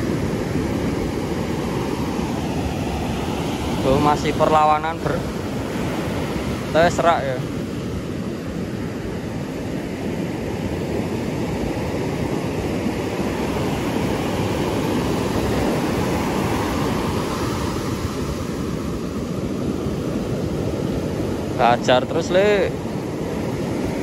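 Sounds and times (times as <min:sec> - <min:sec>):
ocean surf breaking on beach: 0:00.0 - 0:24.0
wind on microphone: 0:00.0 - 0:24.0.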